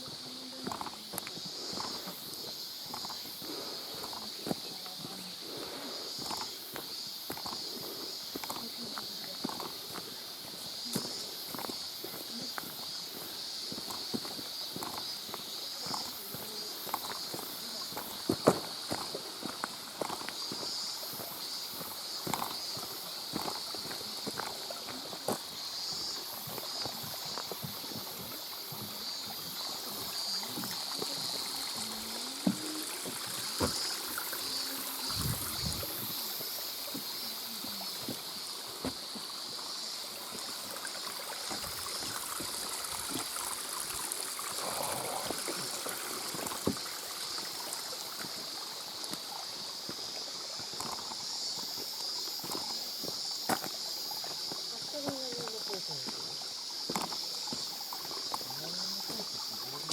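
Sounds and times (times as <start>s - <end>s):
stream water over rocks: 0.0s - 59.9s.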